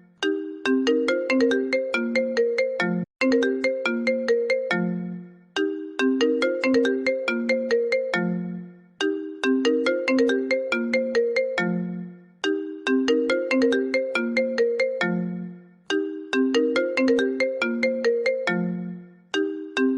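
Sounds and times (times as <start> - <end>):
phone ringtone melody: 0.0 - 19.9.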